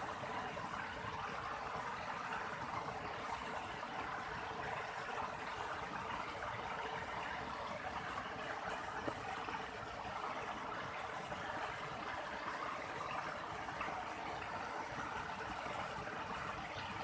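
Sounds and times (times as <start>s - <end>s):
steady hiss of water: 0.0s - 17.0s.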